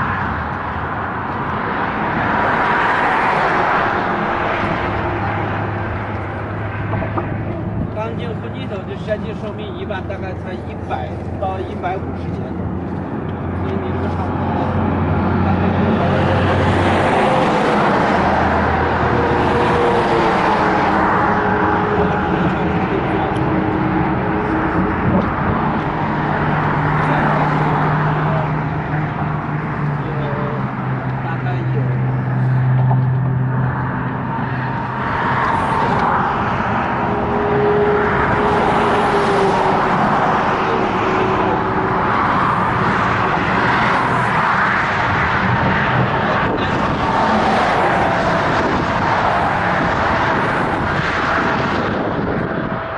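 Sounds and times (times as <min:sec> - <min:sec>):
fast highway traffic passing: 0:00.0 - 0:52.9.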